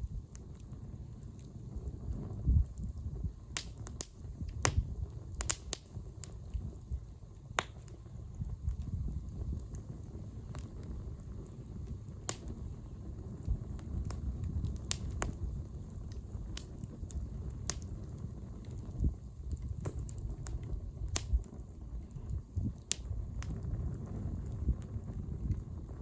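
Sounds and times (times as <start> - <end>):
bonfire crackling: 0.0 - 26.0.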